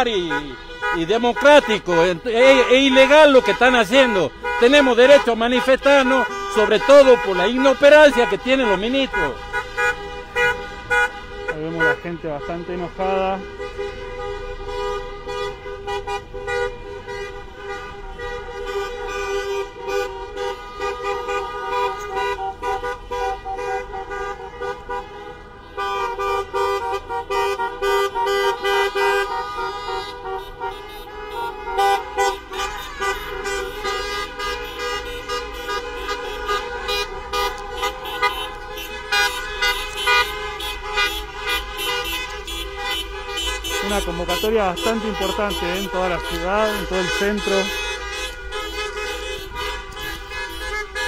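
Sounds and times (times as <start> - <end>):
car horns tooting: 0.0 - 51.0
held car horn tones: 0.0 - 51.0.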